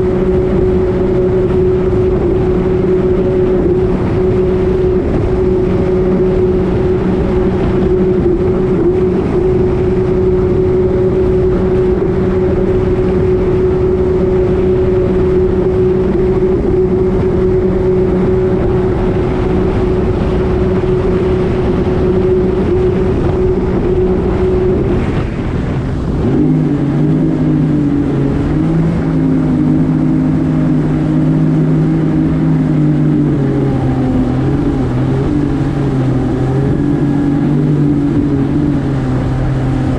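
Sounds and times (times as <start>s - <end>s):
jet ski engine running: 0.0s - 39.9s
rushing water noise: 0.0s - 39.9s.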